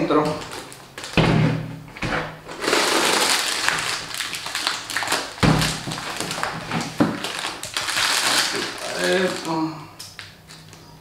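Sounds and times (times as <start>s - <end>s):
plastic bag crinkling: 0.0s - 1.2s, 2.4s - 10.8s.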